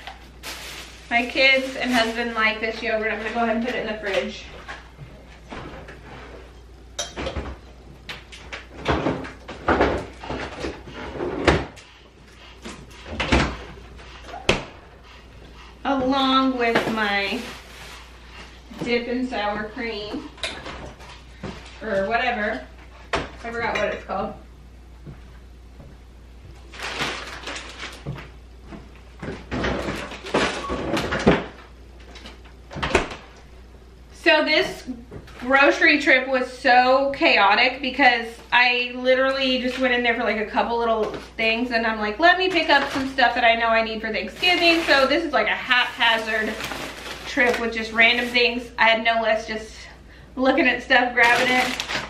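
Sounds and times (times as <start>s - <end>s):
groceries rustling and clattering: 0.0s - 24.0s, 26.5s - 33.4s, 37.2s - 49.5s, 50.5s - 52.0s.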